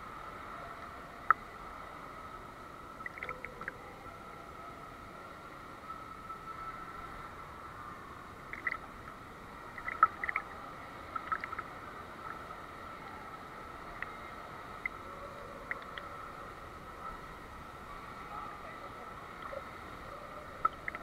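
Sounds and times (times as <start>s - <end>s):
pool water splashing: 0.0s - 5.4s, 8.3s - 21.0s
faint hum: 0.0s - 21.0s.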